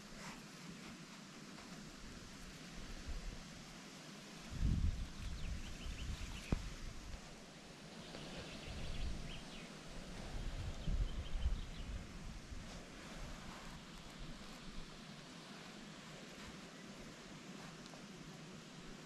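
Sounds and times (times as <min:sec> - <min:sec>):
steady noise bed: 0:00.0 - 0:19.0.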